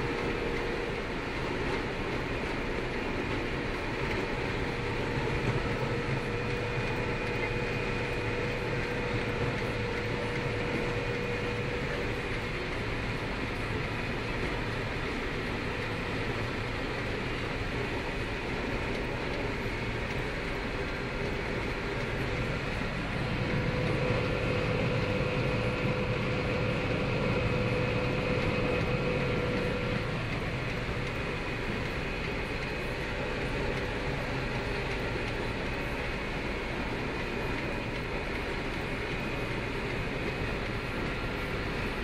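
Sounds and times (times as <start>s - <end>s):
combine harvester drone: 0.0s - 42.0s
faint high whine: 3.6s - 42.0s.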